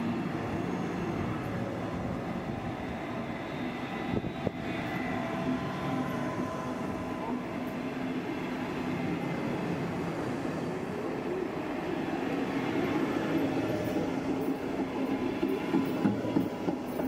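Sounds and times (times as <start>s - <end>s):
train wheels humming on rails: 0.0s - 17.0s.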